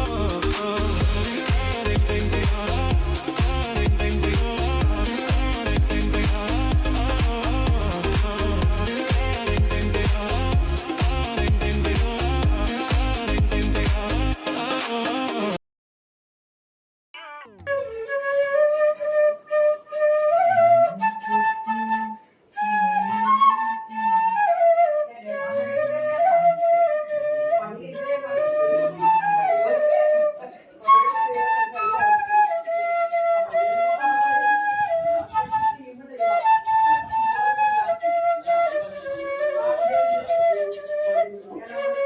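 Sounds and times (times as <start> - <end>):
bamboo flute melody: 0.0 - 14.8, 17.5 - 42.0.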